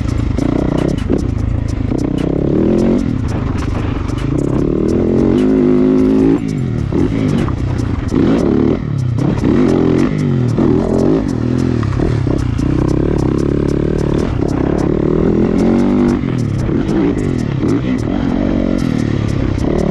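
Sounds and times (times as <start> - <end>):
motocross bike engine revving: 0.0 - 19.9.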